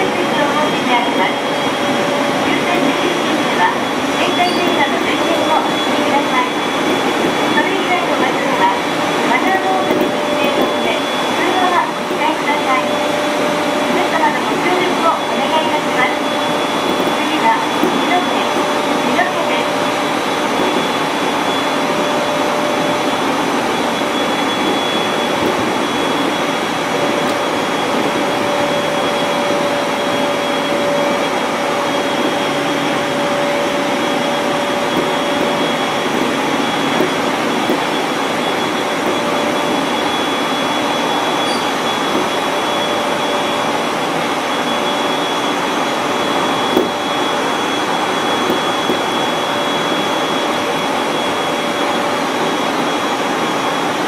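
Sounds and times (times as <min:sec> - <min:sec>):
steady whining tones: 0:00.0 - 0:54.0
wheels rushing on rail: 0:00.0 - 0:54.0.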